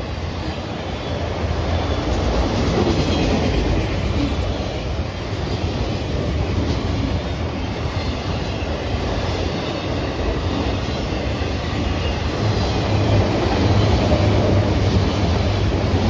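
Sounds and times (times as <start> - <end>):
freight train cars rolling: 0.0 - 16.0
steel wheels on rails: 0.0 - 16.0.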